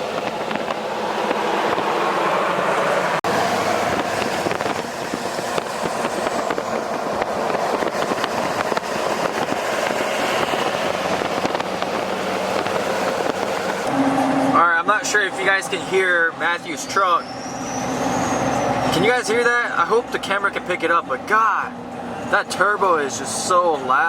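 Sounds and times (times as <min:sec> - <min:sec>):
vehicle and road noise: 0:00.0 - 0:24.0.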